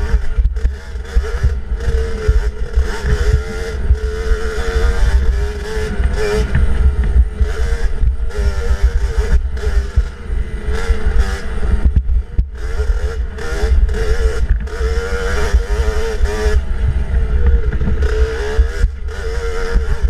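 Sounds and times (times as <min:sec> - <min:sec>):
dirt bike engine revving: 0:00.0 - 0:20.0
heavy low rumble: 0:00.0 - 0:20.0.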